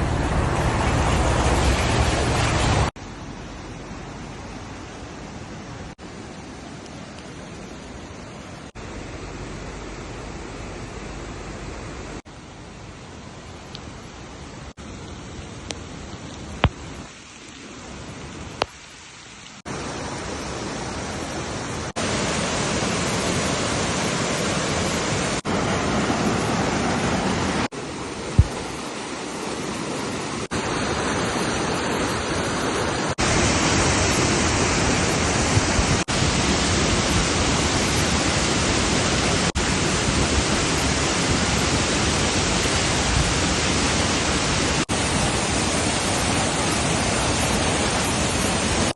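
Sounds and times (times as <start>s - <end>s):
heavy rain hissing: 0.0s - 48.9s
running water: 0.0s - 48.9s.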